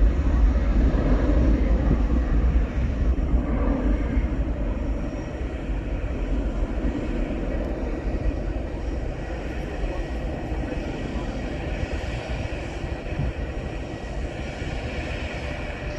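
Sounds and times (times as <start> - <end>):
jet engine rumble and hiss: 0.0 - 15.9.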